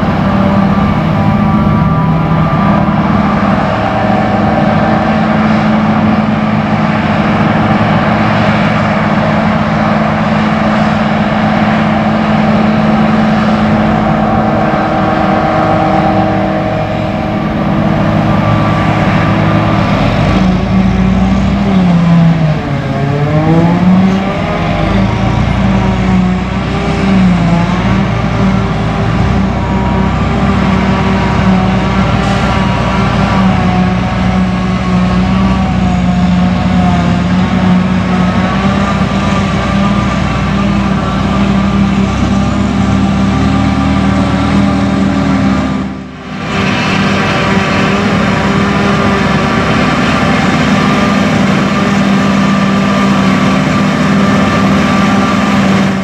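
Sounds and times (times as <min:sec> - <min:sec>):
forage harvester engine drone: 0:00.0 - 0:56.0.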